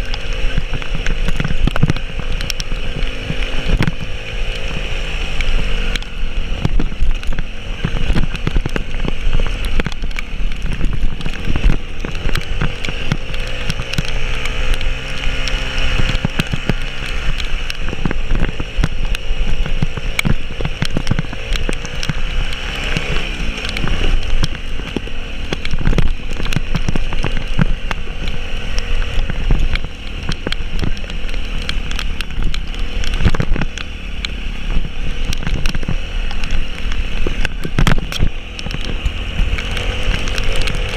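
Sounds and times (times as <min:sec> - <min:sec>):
vehicle engine revving: 0:00.0 - 0:40.9.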